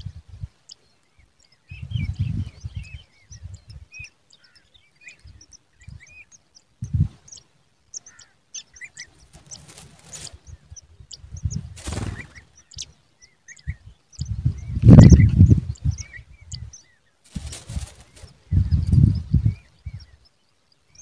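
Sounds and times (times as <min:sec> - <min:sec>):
rustle: 0:00.0 - 0:14.1, 0:15.7 - 0:21.0
nestlings chirping: 0:00.0 - 0:21.0.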